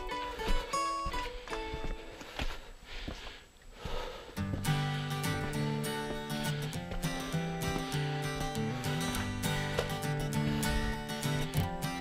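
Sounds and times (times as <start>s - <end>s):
person breathing hard: 0.0s - 1.4s, 2.1s - 11.6s.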